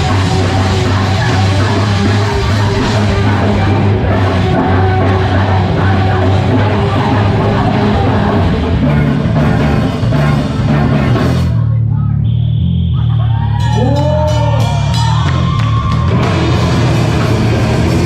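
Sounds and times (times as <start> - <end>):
drum kit: 0.0 - 11.7, 13.6 - 18.0
heavy rock band playing: 0.0 - 11.8, 13.5 - 18.0
distorted guitars: 0.0 - 18.0.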